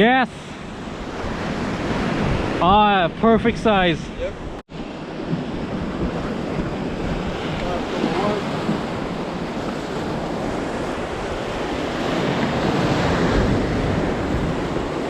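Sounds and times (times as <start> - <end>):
sea surf washing: 0.0 - 15.0
wind buffeting microphone: 0.5 - 15.0.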